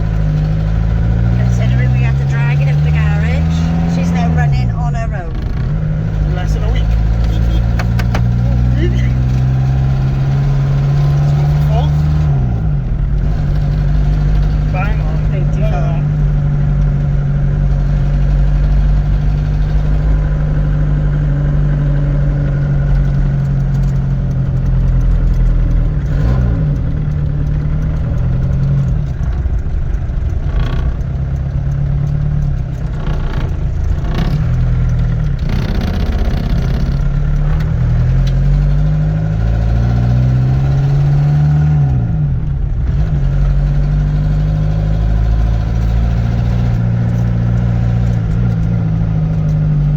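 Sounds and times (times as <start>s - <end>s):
van engine shifting gears: 0.0s - 49.9s.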